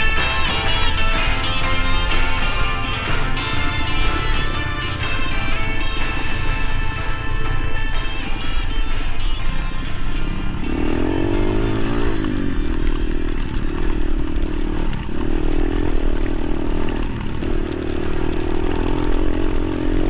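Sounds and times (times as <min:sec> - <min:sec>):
motorcycle engine revving: 0:00.0 - 0:20.0
wind and road noise: 0:00.0 - 0:20.0.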